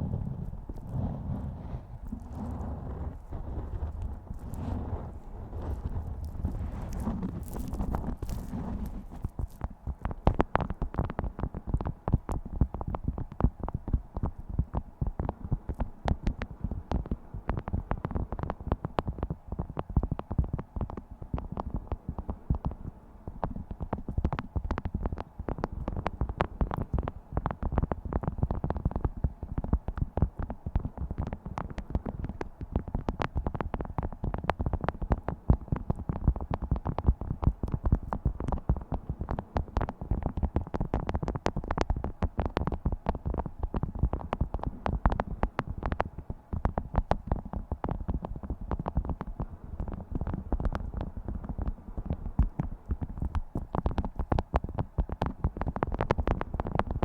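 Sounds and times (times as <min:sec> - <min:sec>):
waxed cloth crackling and crinkling: 0:00.0 - 0:57.0.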